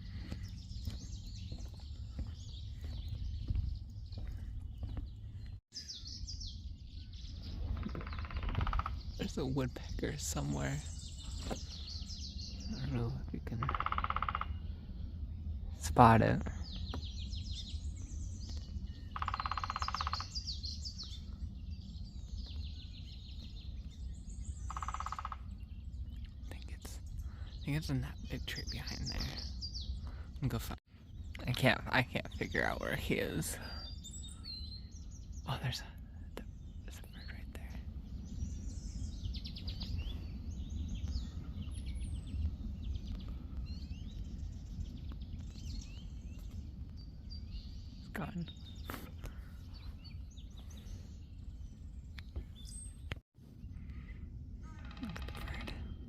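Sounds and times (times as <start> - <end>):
low rapid bird trill: 0.0 - 56.0
songbirds chirping: 0.0 - 56.0
steady low rumble: 0.0 - 56.0.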